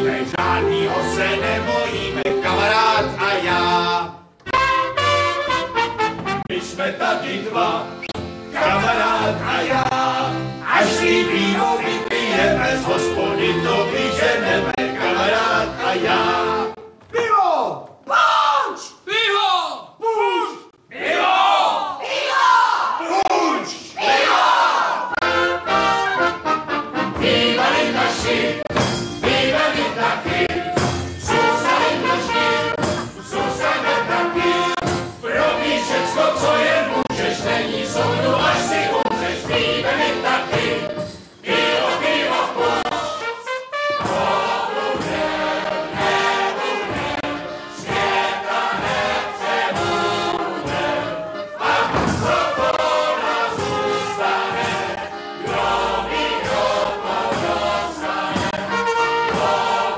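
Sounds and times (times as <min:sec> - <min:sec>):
group of voices singing: 0:00.0 - 0:04.3, 0:06.3 - 0:16.9, 0:20.9 - 0:26.2, 0:26.9 - 0:59.9
folk band playing dance tune: 0:00.0 - 0:17.1, 0:24.0 - 0:59.9.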